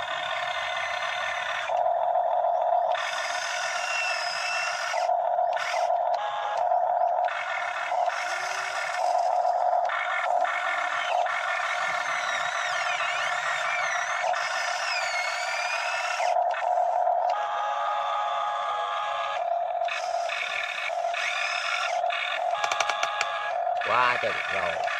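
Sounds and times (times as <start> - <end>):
electric motor whine: 0.0 - 24.9.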